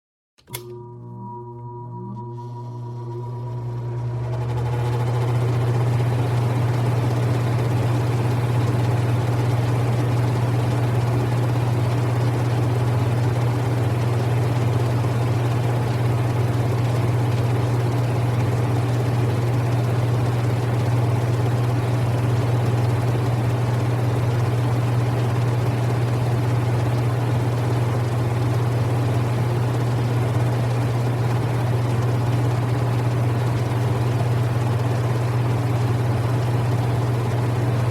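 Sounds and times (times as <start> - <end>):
fan rushing: 2.2 - 37.9.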